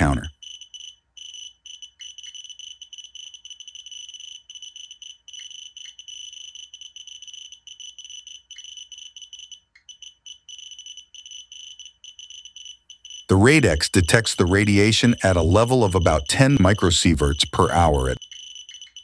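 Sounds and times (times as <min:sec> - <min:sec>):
radiation detector alarm beeping: 0:00.0 - 0:19.0.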